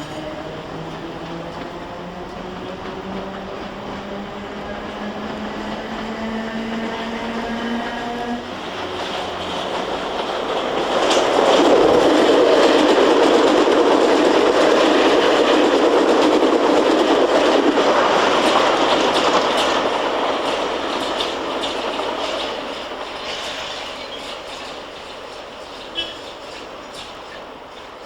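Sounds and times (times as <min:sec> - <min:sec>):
train running past: 0:00.0 - 0:28.0
wheels clattering over rails: 0:00.0 - 0:28.0.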